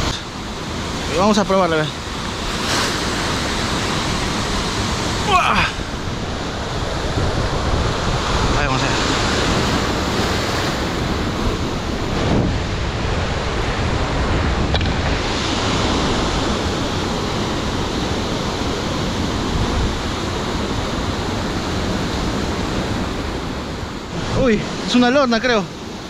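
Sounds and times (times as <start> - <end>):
sea surf washing against rocks: 0.0 - 26.0
wind buffeting microphone: 2.0 - 25.0.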